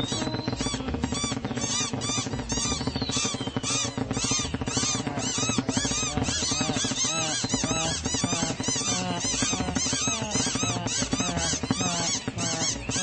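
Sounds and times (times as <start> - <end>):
cartoon bird chirps and squeaks: 0.0 - 13.0.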